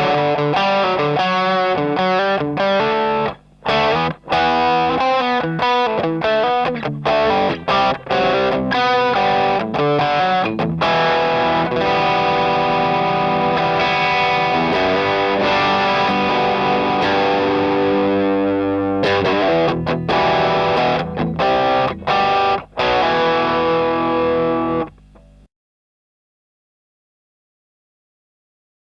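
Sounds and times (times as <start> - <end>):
overdriven electric guitar chords: 0.0 - 25.5.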